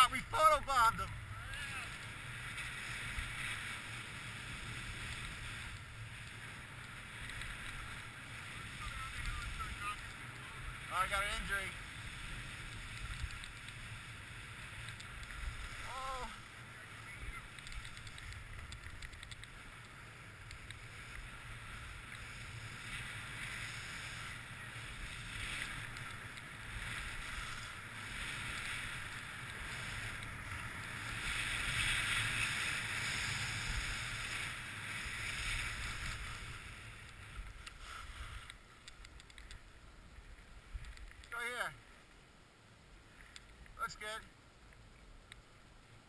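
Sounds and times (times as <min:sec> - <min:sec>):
skis scraping over snow: 0:00.0 - 0:42.0.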